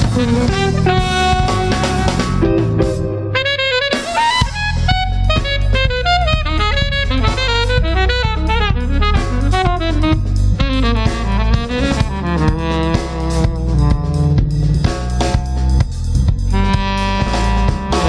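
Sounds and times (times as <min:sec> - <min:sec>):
alto saxophone melody: 0:00.0 - 0:15.7, 0:16.3 - 0:18.0
drum kit with cymbals: 0:00.0 - 0:18.0
electric bass: 0:00.0 - 0:18.0.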